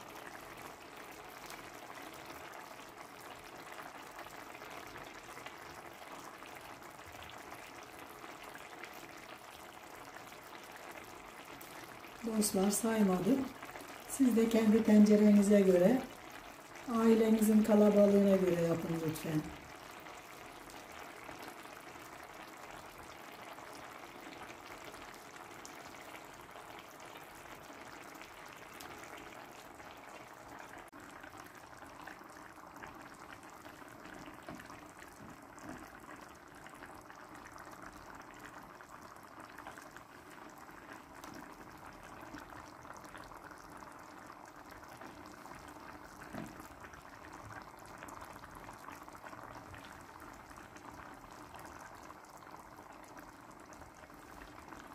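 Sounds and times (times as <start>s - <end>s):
broth bubbling in a pan: 0.0s - 54.9s.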